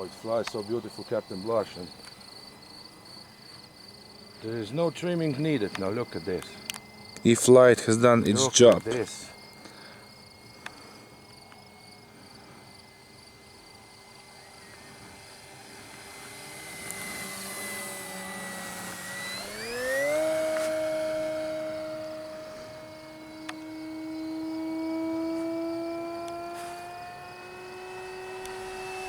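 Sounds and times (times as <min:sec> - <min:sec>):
model plane electric motor whine: 0:00.0 - 0:29.0.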